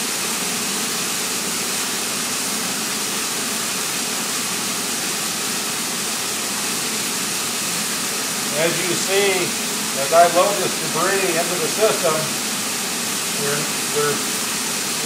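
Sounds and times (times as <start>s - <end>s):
water jets rushing: 0.0s - 15.0s.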